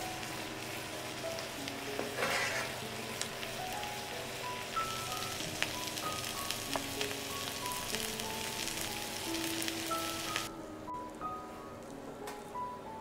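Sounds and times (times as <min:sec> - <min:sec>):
chicken sizzling in a frying pan: 0:00.0 - 0:10.5
simple background melody: 0:00.0 - 0:13.0.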